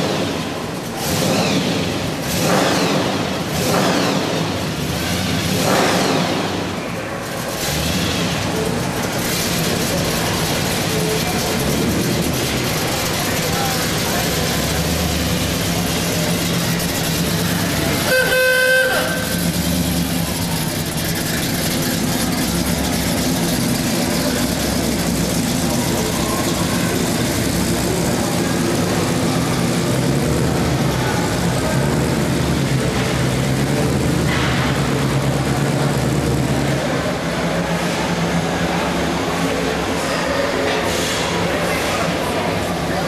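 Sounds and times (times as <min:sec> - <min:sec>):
engine deep rumble: 0:00.0 - 0:43.0.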